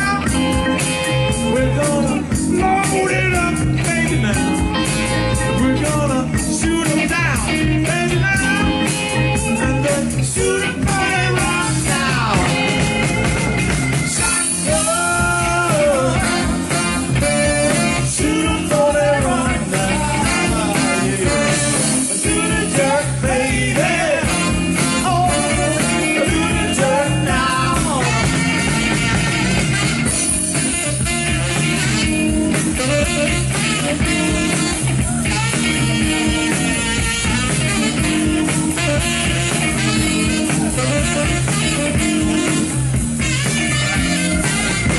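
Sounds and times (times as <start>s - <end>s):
bending melodic lead line: 0.0s - 44.9s
drums and bass beat: 0.0s - 44.9s
guitar: 0.0s - 44.9s.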